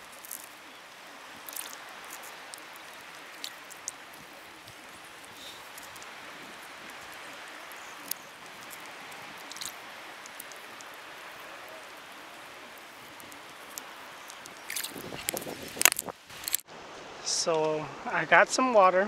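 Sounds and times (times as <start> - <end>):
small ticks and clicks: 0.0 - 16.6
water trickling over rocks: 0.0 - 18.9.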